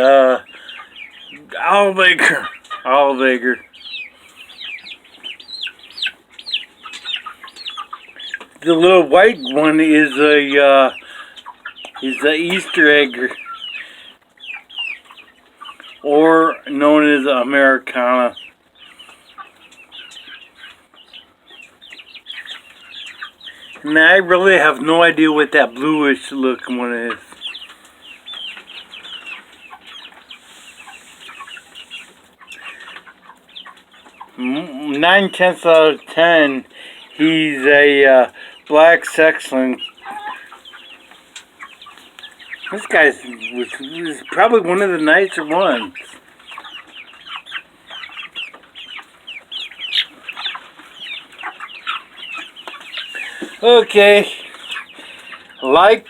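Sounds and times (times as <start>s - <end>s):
young chickens clucking and peeping: 0.0s - 56.0s.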